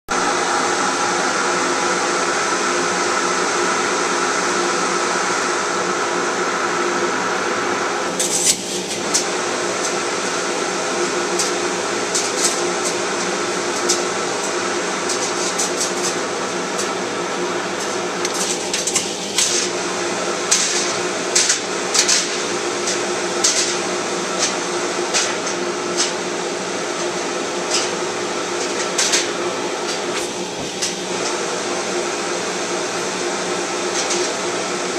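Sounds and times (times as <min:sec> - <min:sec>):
shop vacuum whining: 0:00.1 - 0:34.9.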